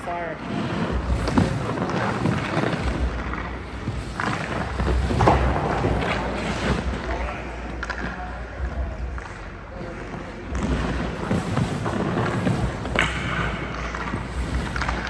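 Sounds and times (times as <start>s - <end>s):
skate blades scraping ice: 0.3s - 15.0s.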